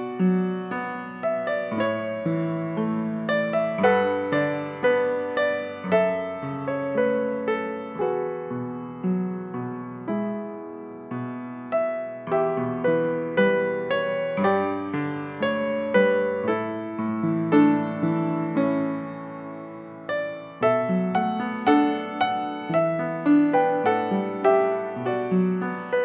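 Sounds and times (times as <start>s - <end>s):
slow gentle piano music: 0.0s - 26.0s.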